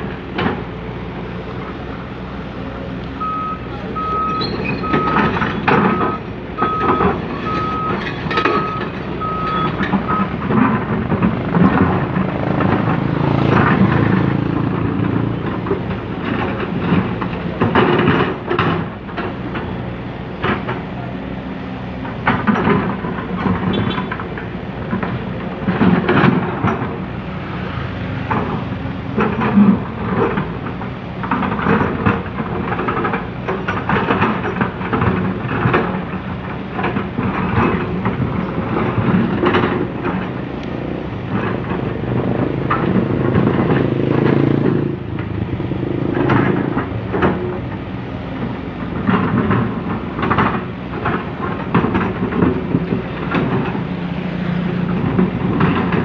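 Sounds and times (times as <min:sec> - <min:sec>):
excavator engine under load: 0:00.0 - 0:56.0.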